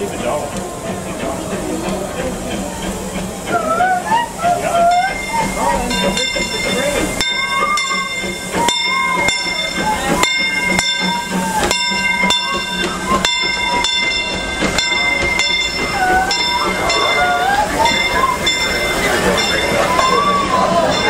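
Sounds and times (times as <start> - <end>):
faint crowd voices: 0.0 - 21.0.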